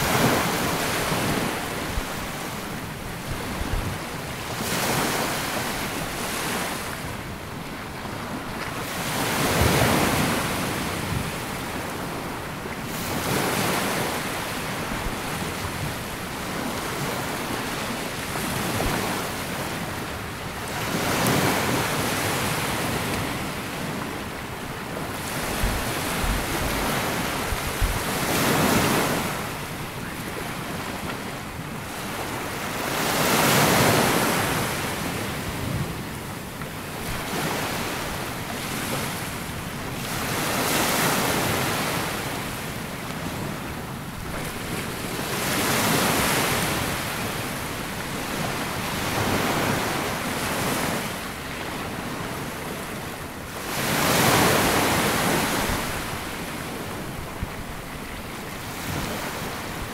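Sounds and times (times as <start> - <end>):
sea waves breaking on beach: 0.0 - 59.9.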